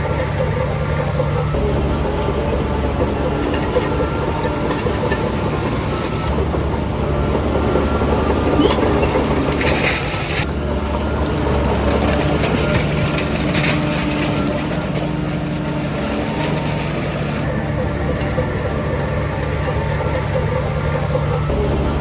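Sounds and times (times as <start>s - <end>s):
bulldozer diesel engine running: 0.0s - 22.0s
steel tracks clanking: 0.0s - 22.0s.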